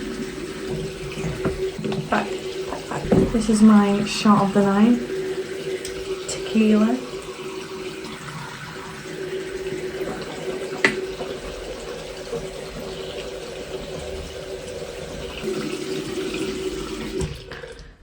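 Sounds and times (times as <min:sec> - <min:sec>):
water running from a tap: 0:00.0 - 0:18.0.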